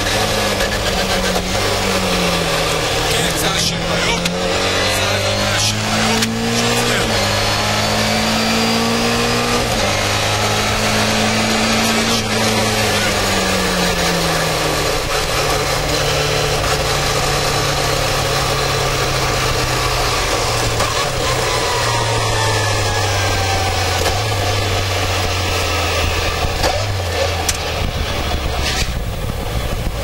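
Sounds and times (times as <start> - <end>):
rally car engine: 0.0 - 30.0.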